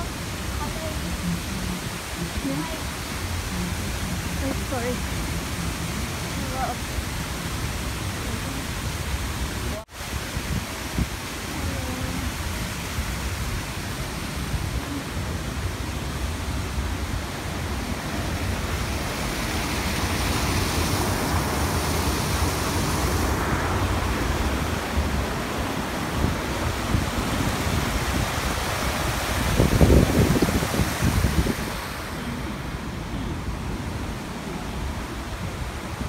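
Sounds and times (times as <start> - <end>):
water rushing over rocks: 0.0 - 36.0
wind rumble on microphone: 0.0 - 36.0.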